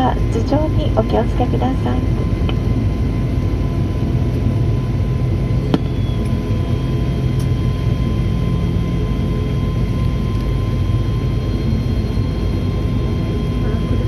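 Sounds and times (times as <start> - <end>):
airliner engine hum with whines: 0.0 - 14.0.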